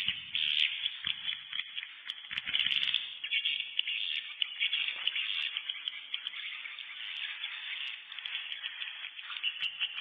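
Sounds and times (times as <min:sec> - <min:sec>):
swiftlets chirping: 0:00.4 - 0:10.0.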